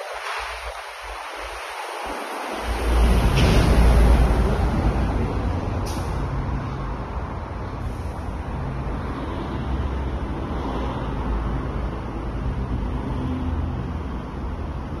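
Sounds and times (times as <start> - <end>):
low rumbling background noise: 2.6 - 15.0.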